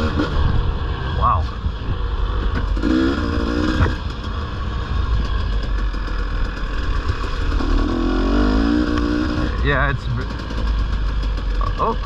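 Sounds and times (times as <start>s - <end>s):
dirt bike engine revving: 0.0s - 1.2s, 1.9s - 12.0s.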